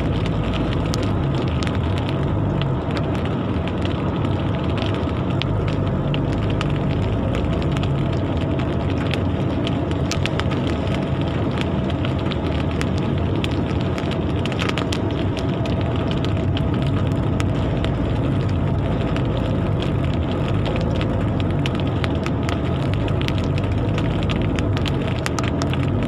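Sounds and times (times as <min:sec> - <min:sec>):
rain drops on hard surface: 0:00.0 - 0:26.0.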